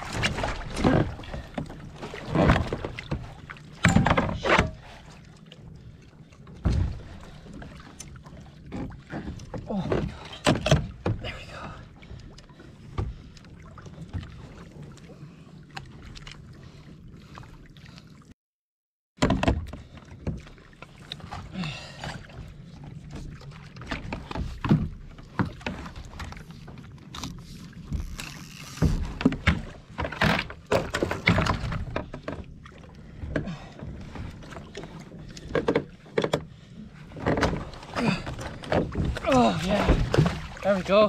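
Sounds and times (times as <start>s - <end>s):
water sloshing against hull: 0.0s - 18.4s, 19.2s - 41.0s.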